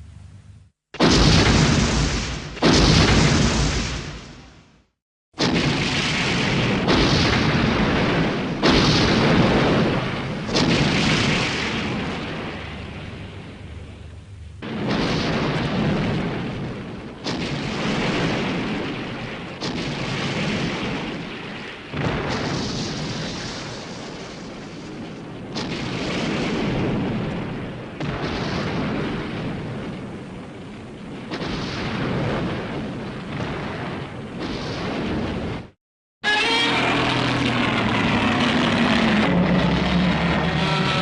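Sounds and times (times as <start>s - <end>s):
explosions with rumble: 1.0s - 35.8s, 36.9s - 41.0s.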